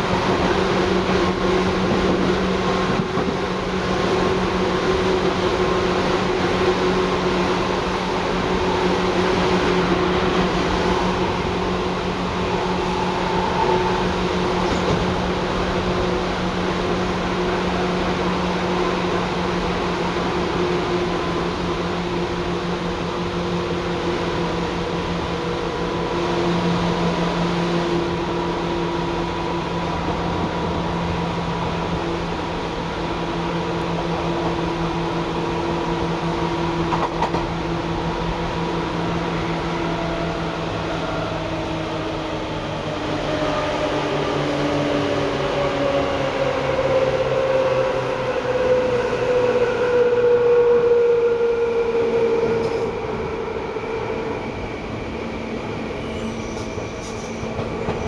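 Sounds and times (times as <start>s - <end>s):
electric train motor whine and hum: 0.0s - 58.0s.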